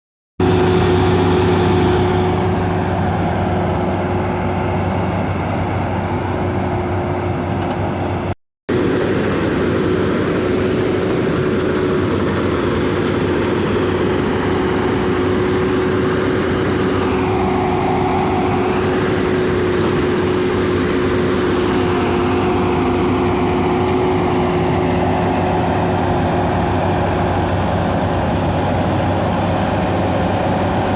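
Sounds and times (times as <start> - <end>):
harvesting machine engine drone: 0.4 - 30.9.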